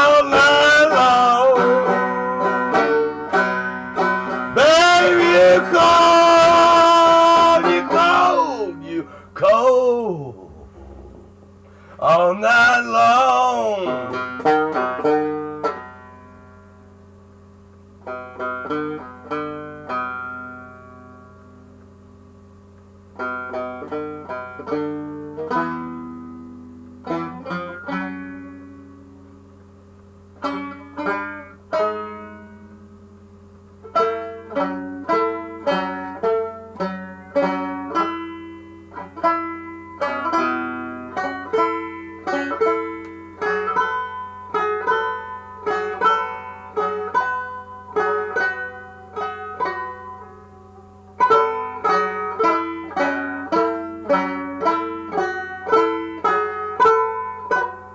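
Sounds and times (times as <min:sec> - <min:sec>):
solo banjo picking: 0:00.0 - 0:57.9.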